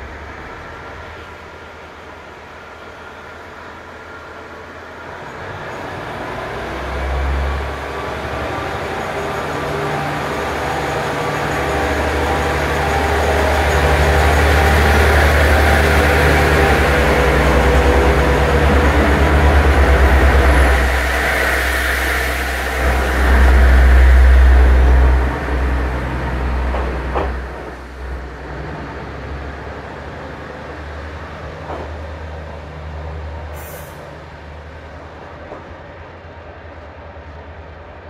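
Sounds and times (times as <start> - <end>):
diesel railcar engine under load: 0.0 - 38.0
train cars rattling past: 5.2 - 37.1.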